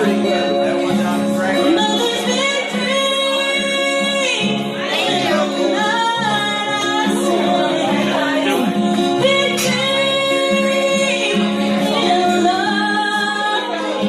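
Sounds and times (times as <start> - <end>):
acoustic guitar: 0.0 - 14.0
woman singing: 0.0 - 14.0.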